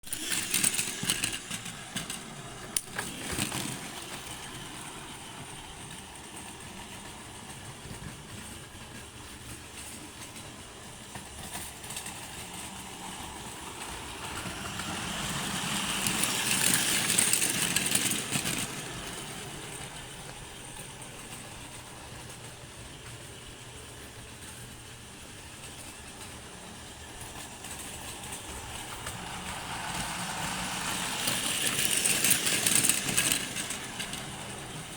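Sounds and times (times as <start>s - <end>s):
electric train wheel noise: 0.0s - 34.9s.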